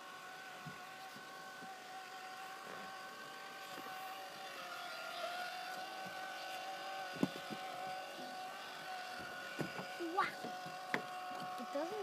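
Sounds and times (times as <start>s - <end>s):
small boat motor whining: 0.0s - 12.0s.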